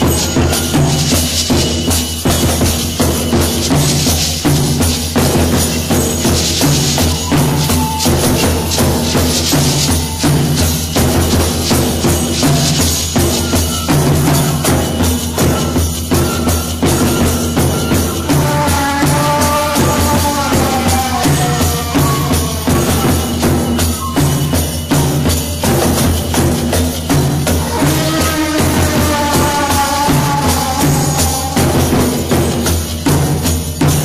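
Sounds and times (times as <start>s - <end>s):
percussion beat: 0.0s - 34.0s.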